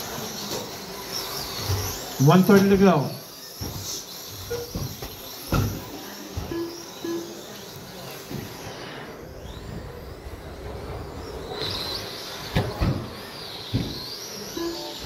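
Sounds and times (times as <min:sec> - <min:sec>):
toy trucks thudding on track: 0:00.0 - 0:08.6, 0:09.3 - 0:15.0
electric motors whining: 0:00.0 - 0:15.0.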